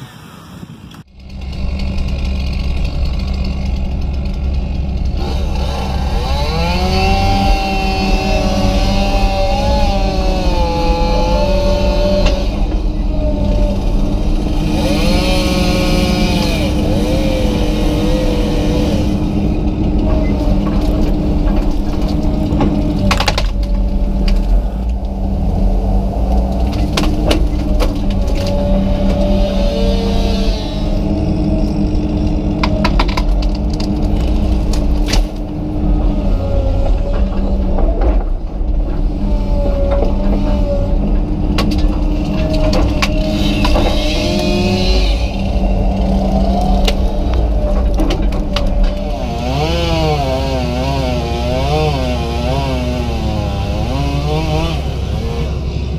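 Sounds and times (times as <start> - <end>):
excavator diesel engine under load: 0.0 - 55.9
hydraulic whine: 0.0 - 55.9
branches cracking and knocking: 1.2 - 30.4, 31.0 - 54.7.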